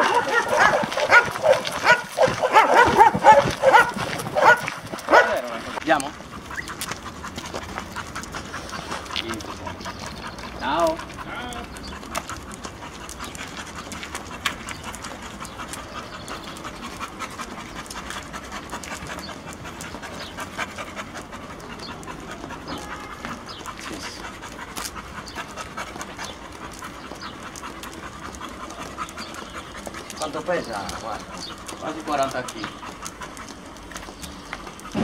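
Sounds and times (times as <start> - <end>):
dog panting: 0.0 - 35.0.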